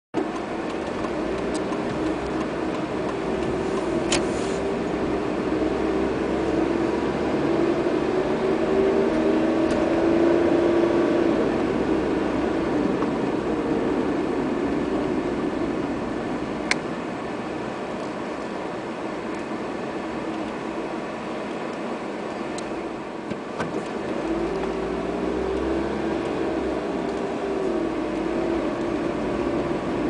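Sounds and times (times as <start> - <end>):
car engine and tyre noise: 0.2 - 30.0.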